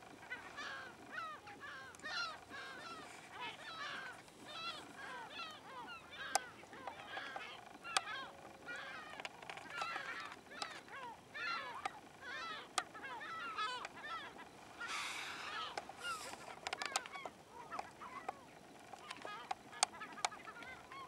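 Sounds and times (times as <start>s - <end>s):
flock of birds calling: 0.0s - 21.0s.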